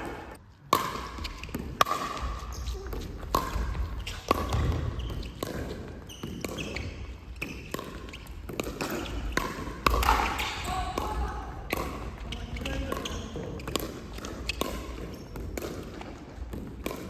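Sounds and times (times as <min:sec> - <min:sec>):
ball struck and bouncing: 0:00.0 - 0:17.0.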